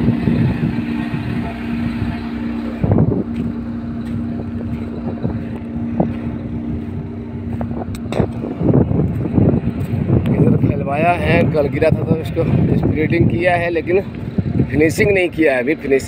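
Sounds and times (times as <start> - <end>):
diesel engine running: 0.0 - 16.0
wind buffeting microphone: 0.0 - 16.0.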